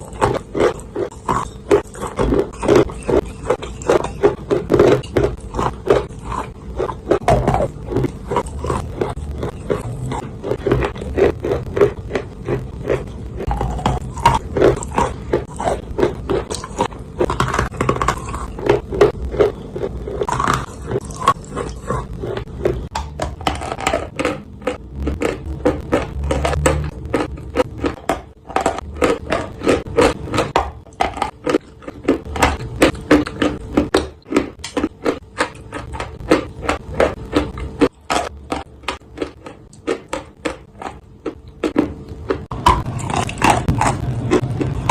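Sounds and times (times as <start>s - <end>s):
dry clay crunching when chewed: 0.0s - 44.9s.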